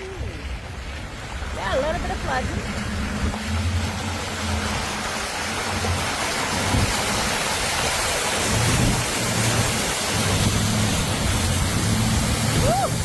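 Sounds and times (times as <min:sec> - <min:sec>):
heavy rain: 0:00.0 - 0:13.0
low engine drone: 0:00.0 - 0:13.0.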